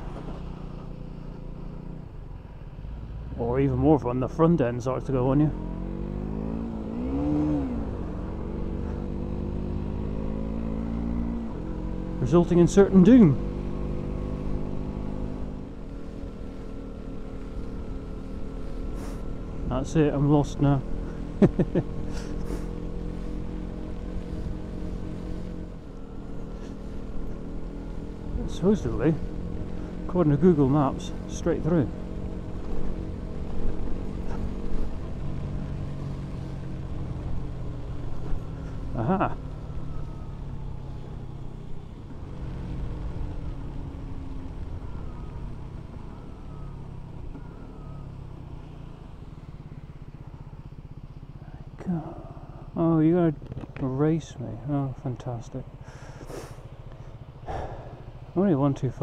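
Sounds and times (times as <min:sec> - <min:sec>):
road noise on wet street: 0:00.0 - 0:59.0
wind: 0:00.0 - 0:59.0
motorcycle engine running: 0:03.6 - 0:59.0.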